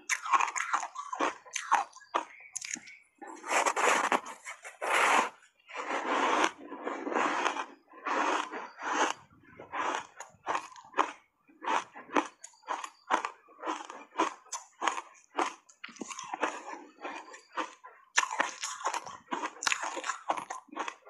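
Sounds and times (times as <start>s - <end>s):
ice being chewed with crunches: 0.0s - 21.0s.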